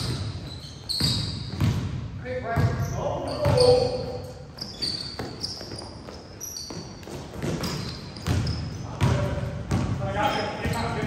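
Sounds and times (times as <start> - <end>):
basketball bouncing on gym floor: 0.0 - 11.0
sneaker squeaks: 0.0 - 11.0.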